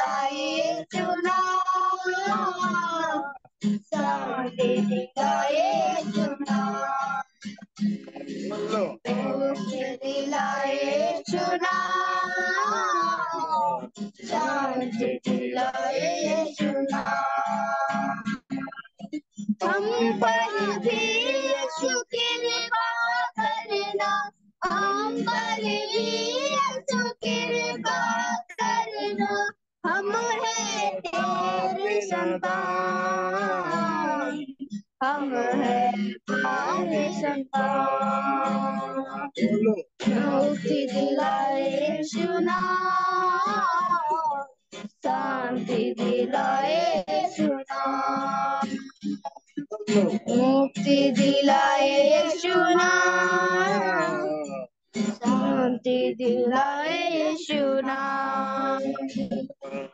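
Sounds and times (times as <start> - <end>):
person singing with instruments: 0.0 - 59.9.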